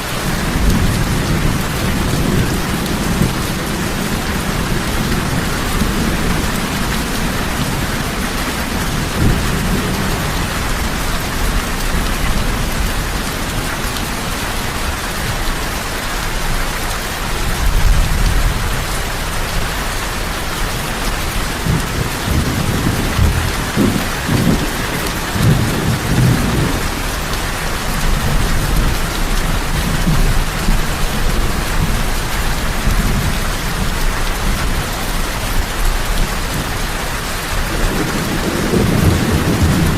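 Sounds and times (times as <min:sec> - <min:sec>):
heavy rain falling: 0:00.0 - 0:39.9
low thunder rumbling: 0:00.2 - 0:14.4, 0:21.0 - 0:36.7, 0:37.5 - 0:39.9.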